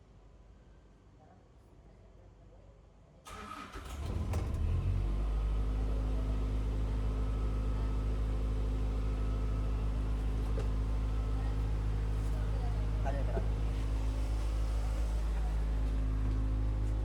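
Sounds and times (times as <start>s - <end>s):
diesel engine cranking and idling: 3.3s - 17.0s.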